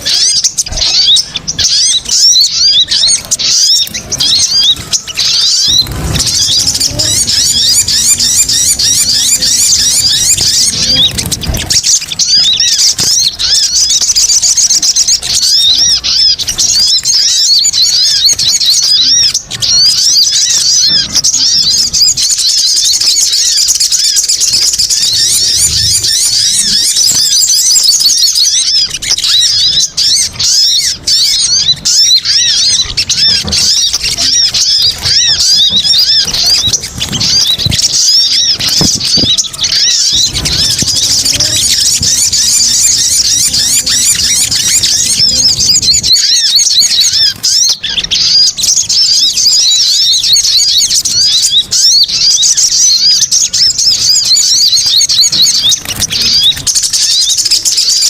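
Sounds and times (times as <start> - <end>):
birds chirping in chorus: 0.0 - 58.0.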